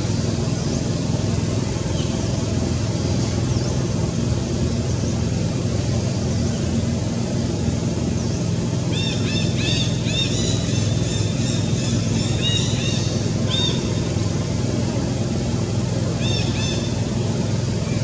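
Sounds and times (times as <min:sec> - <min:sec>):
low motor drone: 0:00.0 - 0:18.0.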